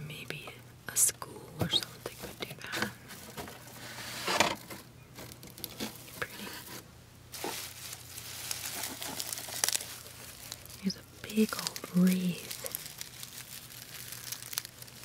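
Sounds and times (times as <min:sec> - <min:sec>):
tinsel decoration rustling: 0:02.0 - 0:15.0.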